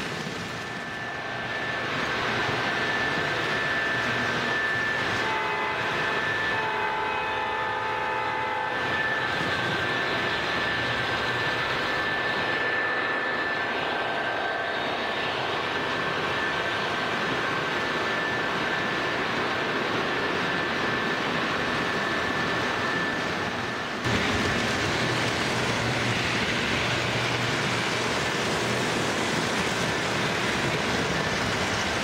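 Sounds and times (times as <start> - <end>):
model train rumbling on track: 0.0 - 32.0.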